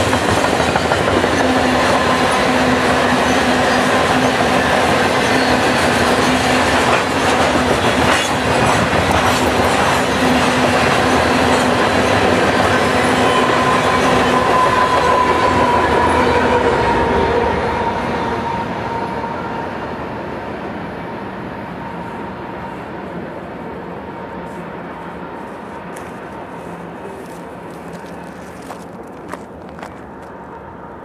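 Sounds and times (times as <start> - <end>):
train wheels rumbling on rails: 0.0 - 30.6
diesel locomotive higher tone: 0.0 - 31.0.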